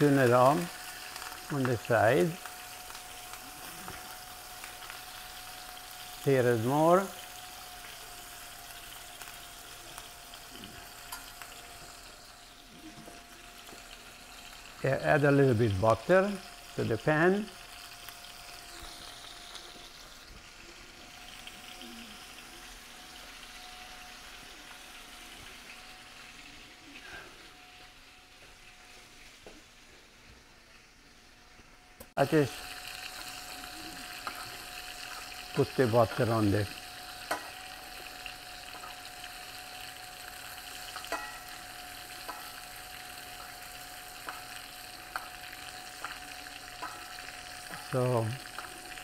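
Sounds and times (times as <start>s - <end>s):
meat sizzling in a pan: 0.0s - 49.0s.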